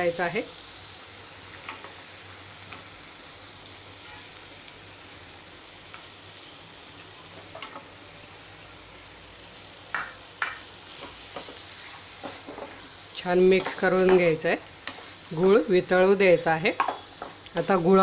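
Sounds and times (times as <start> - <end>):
pan sizzling: 0.0 - 18.0.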